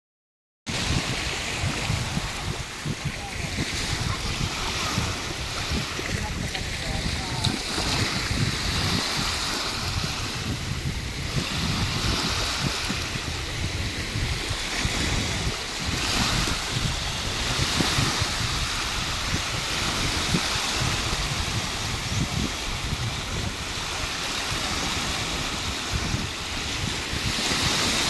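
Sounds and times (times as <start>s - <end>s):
small waves washing ashore: 0.7s - 28.0s
wind buffeting microphone: 0.7s - 28.0s.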